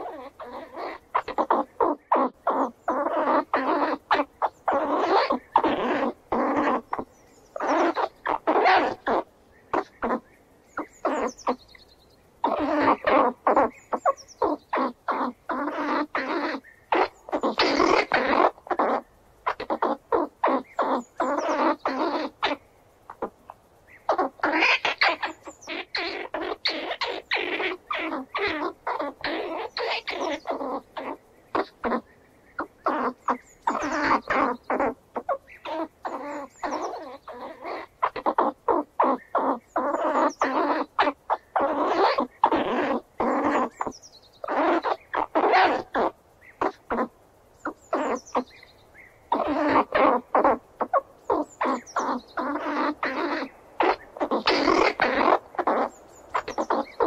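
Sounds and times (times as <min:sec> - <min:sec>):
squirrel chattering: 0:00.0 - 0:11.8, 0:12.4 - 0:57.0.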